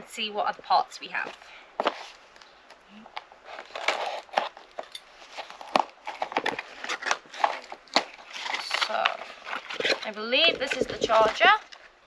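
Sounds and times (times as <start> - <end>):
cardboard rustling and crinkling: 1.1 - 2.5, 3.1 - 12.0.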